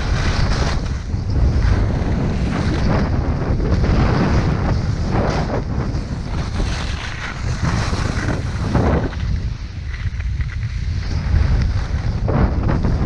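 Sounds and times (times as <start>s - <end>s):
skis hissing over snow: 0.0s - 3.2s, 4.0s - 12.7s
wind buffeting microphone: 0.0s - 13.0s.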